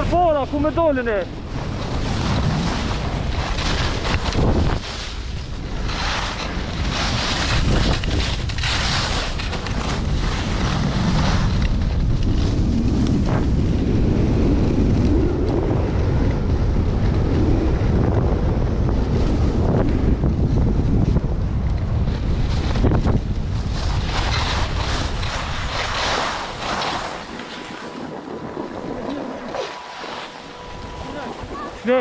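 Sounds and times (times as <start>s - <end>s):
skis carving on snow: 0.0s - 32.0s
wind buffeting microphone: 0.0s - 32.0s.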